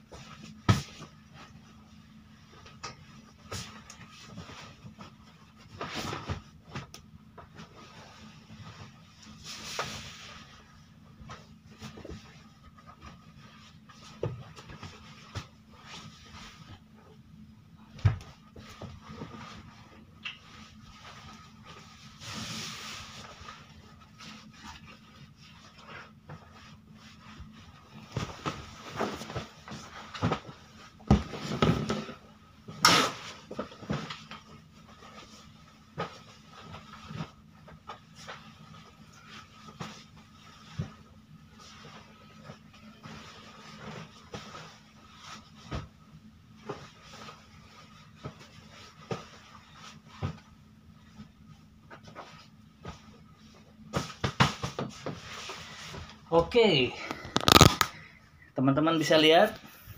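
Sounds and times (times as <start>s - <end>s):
bed linen rustling: 0.0s - 58.2s
steady low hum: 0.0s - 59.9s.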